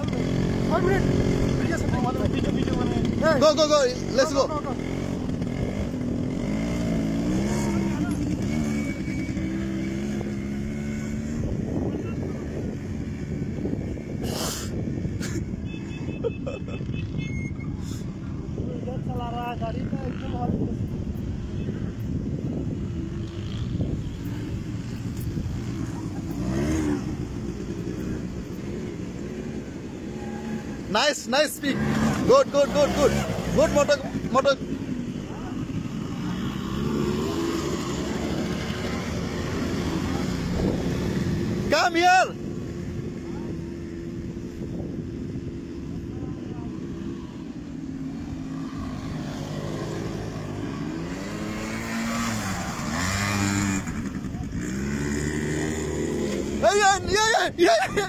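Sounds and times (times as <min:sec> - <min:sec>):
quad bike engine revving: 0:00.0 - 0:18.6, 0:19.4 - 0:57.9.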